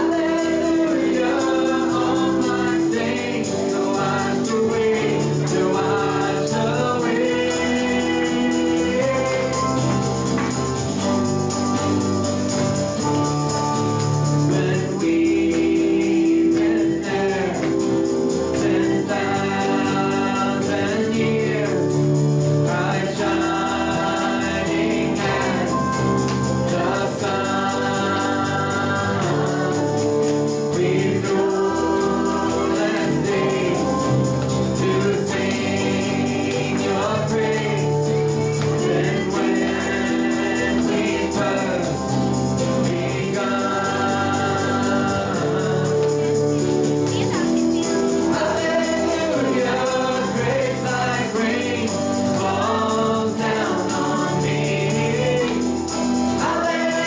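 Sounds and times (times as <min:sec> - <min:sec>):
instrumental accompaniment: 0:00.0 - 0:57.0
voices singing: 0:00.0 - 0:57.0.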